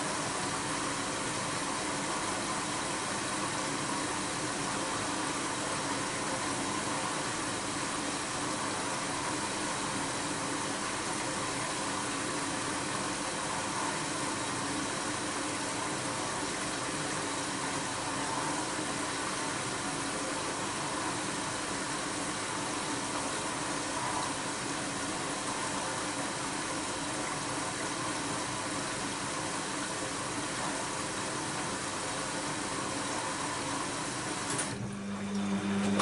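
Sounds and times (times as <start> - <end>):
water rushing into washing machine drum: 0.0 - 36.0.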